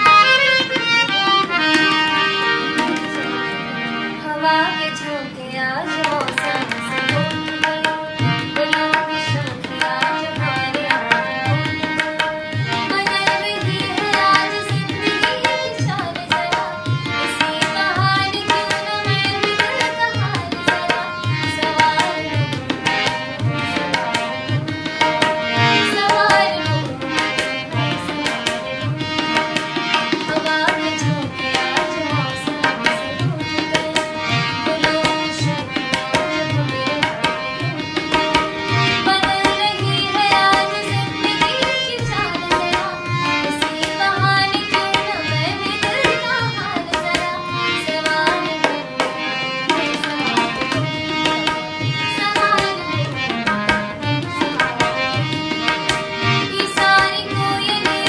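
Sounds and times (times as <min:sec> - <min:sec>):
tabla beat: 0:00.0 - 0:03.7, 0:05.9 - 0:58.0
woman singing: 0:04.2 - 0:58.0.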